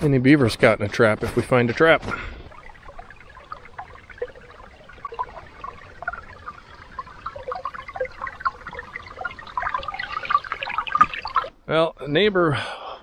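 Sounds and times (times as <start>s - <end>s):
creek water trickling and gurgling: 0.2s - 11.9s.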